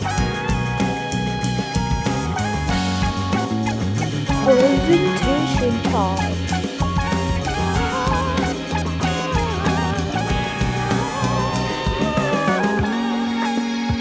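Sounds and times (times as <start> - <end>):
upbeat instrumental music: 0.0 - 14.0.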